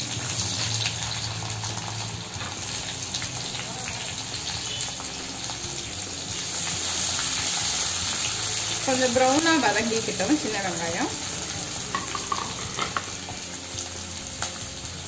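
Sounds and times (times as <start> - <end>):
shallots sizzling in oil: 0.0 - 15.0.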